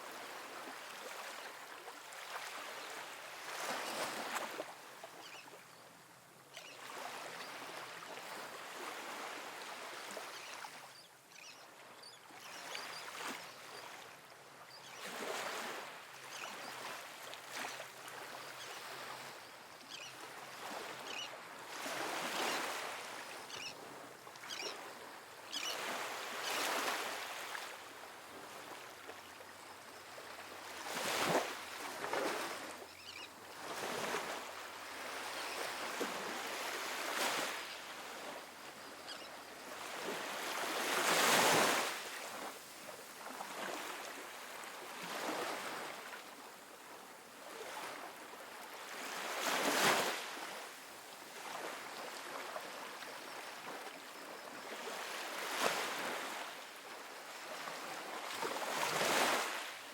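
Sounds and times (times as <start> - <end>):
small waves washing up beach: 0.0 - 5.6, 6.7 - 11.0, 11.7 - 59.9.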